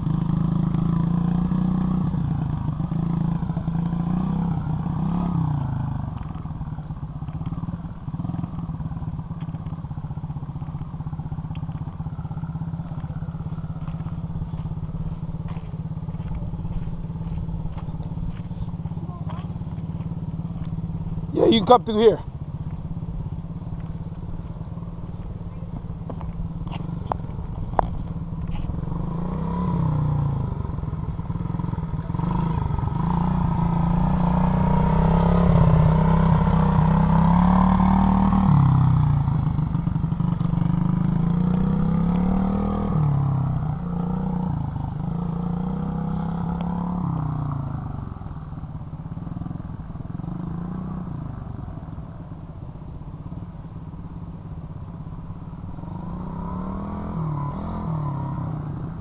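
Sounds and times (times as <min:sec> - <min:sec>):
motorbike engine revving: 0:00.0 - 0:51.8, 0:55.6 - 0:59.0.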